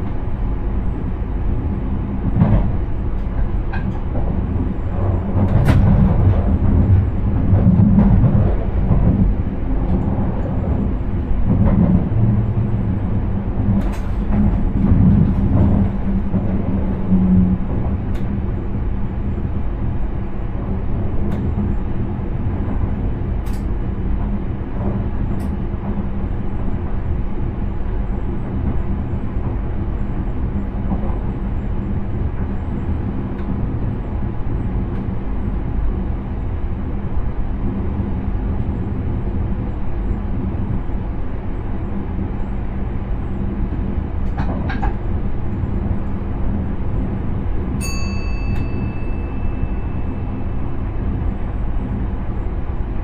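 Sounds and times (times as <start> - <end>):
train running rumble and hum: 0.0 - 53.0.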